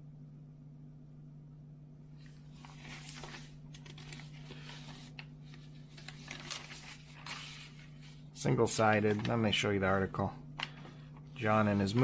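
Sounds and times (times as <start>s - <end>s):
low electrical hum: 0.0s - 12.0s
newspaper pages crinkling: 2.3s - 12.0s.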